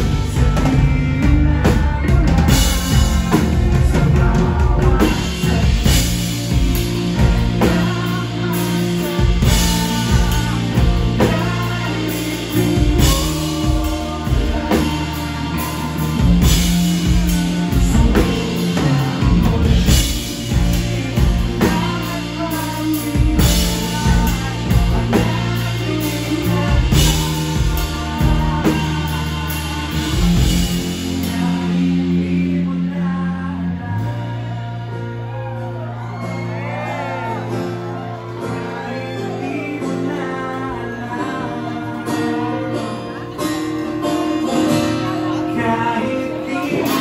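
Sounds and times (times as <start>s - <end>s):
live rock band playing: 0.0s - 47.0s
man singing: 0.0s - 47.0s.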